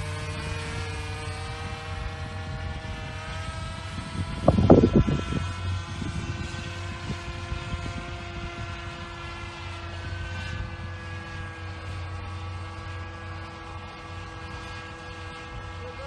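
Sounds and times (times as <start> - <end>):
model aircraft engine whining: 0.0 - 16.0.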